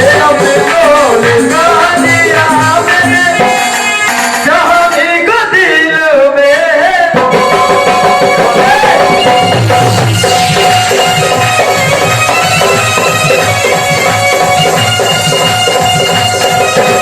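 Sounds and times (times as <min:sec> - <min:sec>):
hand drum beat: 0:00.0 - 0:04.6, 0:07.2 - 0:17.0.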